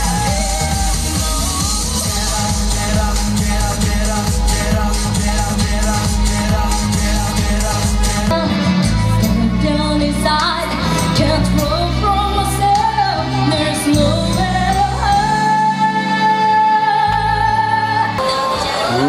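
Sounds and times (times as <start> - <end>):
pop song with singer: 0.0 - 19.0.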